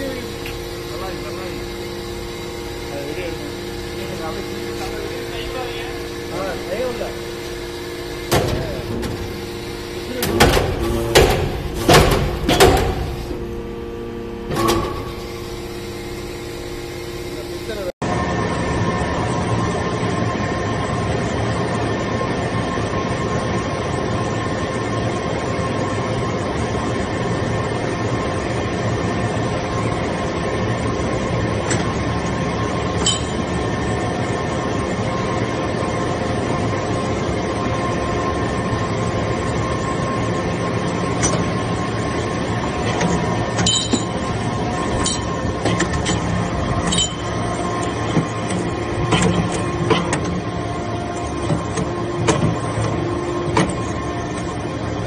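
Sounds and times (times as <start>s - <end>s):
hydraulic press hum and whine: 0.0s - 55.0s.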